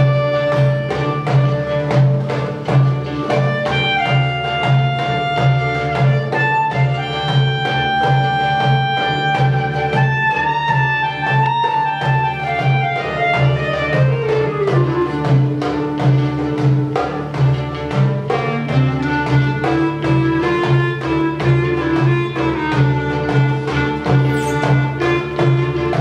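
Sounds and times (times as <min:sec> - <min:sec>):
folk ensemble with violins and clarinet: 0:00.0 - 0:26.0.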